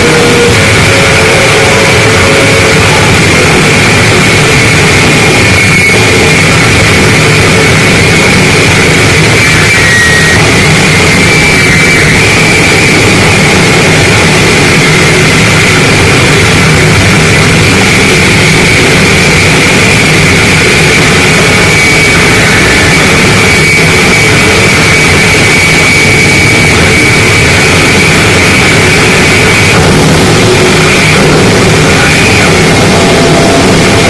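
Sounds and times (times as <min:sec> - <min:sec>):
distorted noise music: 0:00.0 - 0:34.0
high whine: 0:00.0 - 0:34.0.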